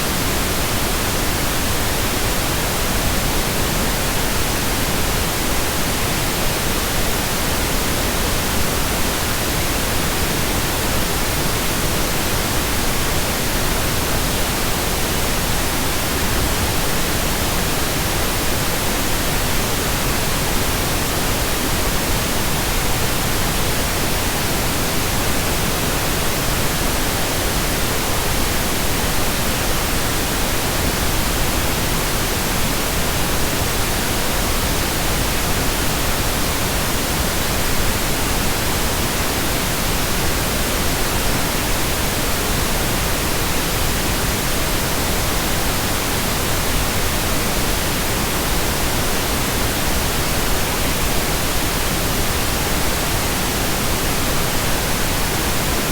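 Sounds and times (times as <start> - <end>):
pink noise hiss: 0.0 - 55.9.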